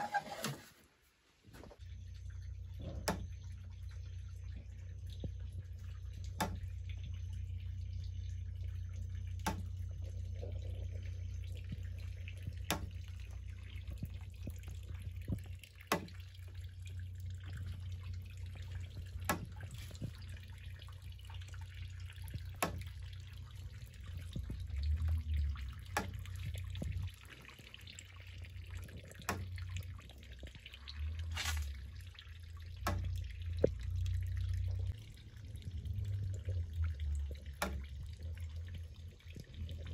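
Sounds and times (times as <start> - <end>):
liquid dripping: 1.6 - 39.9
low uneven rumble: 1.6 - 39.9.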